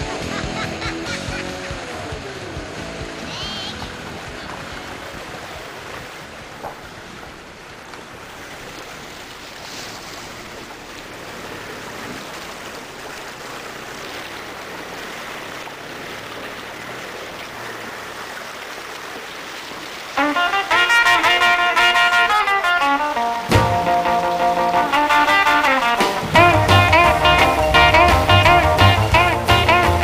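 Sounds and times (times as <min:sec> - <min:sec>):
river water rushing around tyres: 0:00.0 - 0:30.0.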